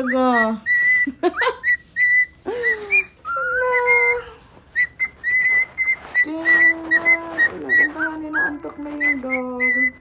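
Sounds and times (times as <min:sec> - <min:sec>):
pet bird whistling: 0:00.0 - 0:10.0.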